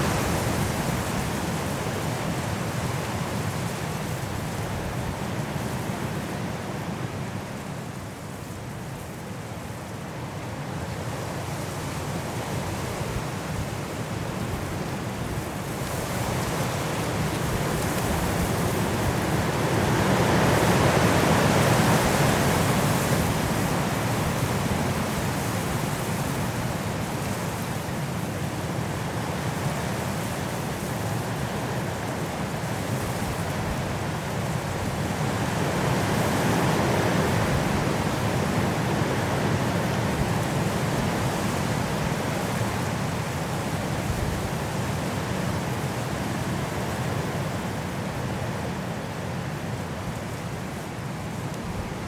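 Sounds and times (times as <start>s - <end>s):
strong wind through trees: 0.0s - 52.0s.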